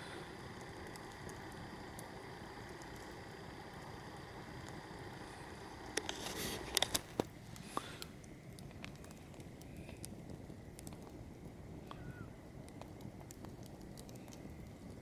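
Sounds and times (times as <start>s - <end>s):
burning wood hissing: 0.0s - 15.0s
burning wood popping: 0.0s - 15.0s
campfire crackling: 0.0s - 15.0s.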